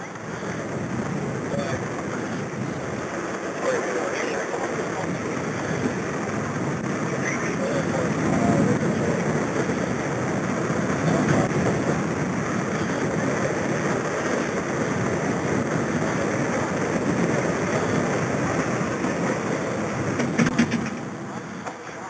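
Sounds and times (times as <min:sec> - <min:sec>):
wind and movement rumble: 0:00.0 - 0:22.0.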